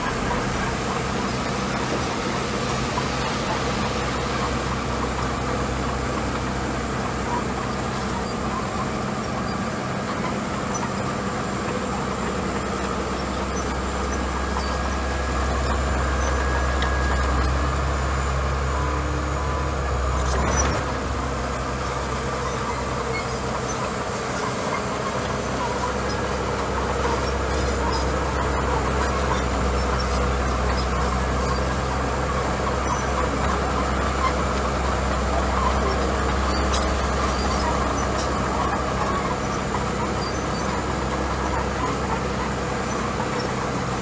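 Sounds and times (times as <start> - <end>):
bulldozer diesel engine: 0.0 - 44.0.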